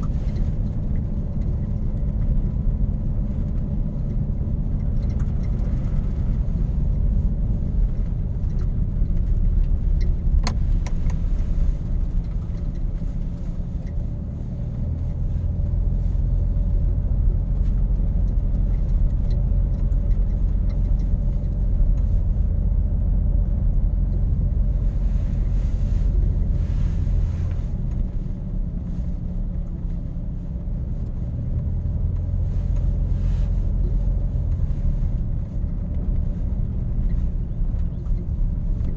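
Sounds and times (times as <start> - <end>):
truck engine rumbling: 0.0 - 38.9.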